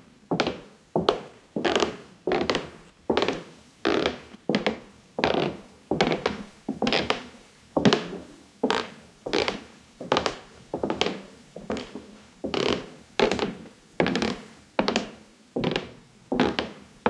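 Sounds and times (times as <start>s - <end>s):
footsteps on creaking wooden floor: 0.3s - 7.2s, 7.8s - 16.8s.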